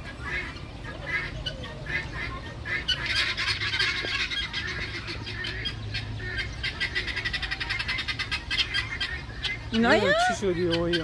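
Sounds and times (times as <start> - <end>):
many birds chattering: 0.0 - 11.0.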